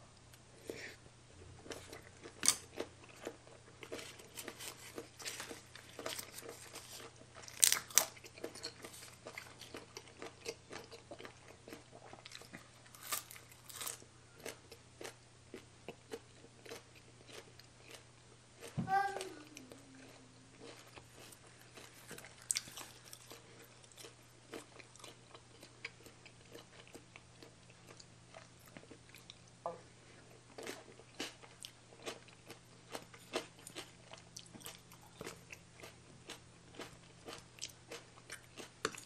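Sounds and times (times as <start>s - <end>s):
close-up chewing and crunching: 1.4s - 39.0s.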